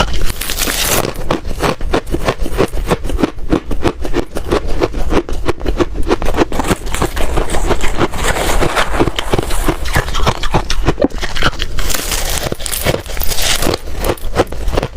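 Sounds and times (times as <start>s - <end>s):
ice crunching between teeth: 0.0s - 14.9s.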